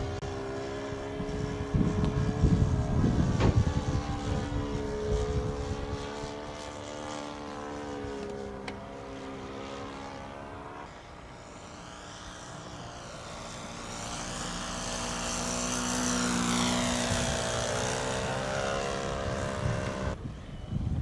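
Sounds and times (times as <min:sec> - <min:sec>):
model airplane motor running: 0:00.0 - 0:20.9.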